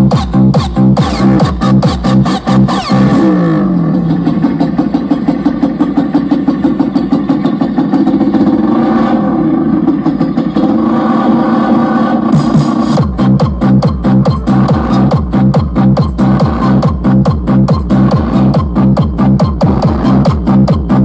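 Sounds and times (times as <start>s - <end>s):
electronic dance music: 0.0s - 21.0s.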